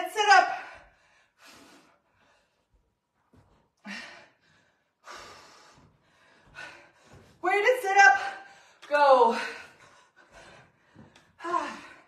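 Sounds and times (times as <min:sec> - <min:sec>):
woman breathing hard: 0:00.6 - 0:02.8, 0:03.4 - 0:07.4, 0:08.3 - 0:12.0.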